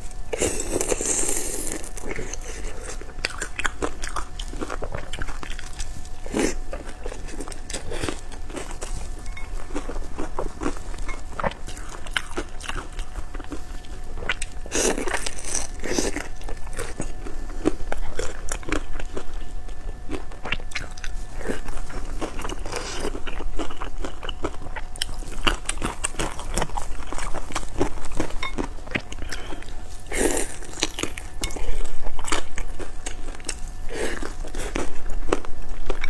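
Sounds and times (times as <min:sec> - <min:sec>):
person chewing food: 0:00.3 - 0:36.0.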